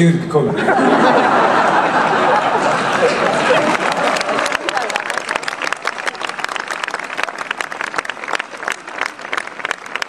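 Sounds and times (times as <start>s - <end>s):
crowd applauding: 1.2s - 10.0s.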